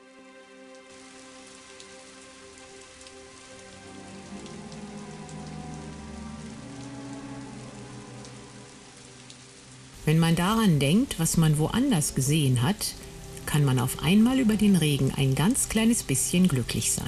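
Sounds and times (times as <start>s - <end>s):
rain on stone and water: 0.0s - 17.0s
soft sustained music chord: 0.0s - 17.0s.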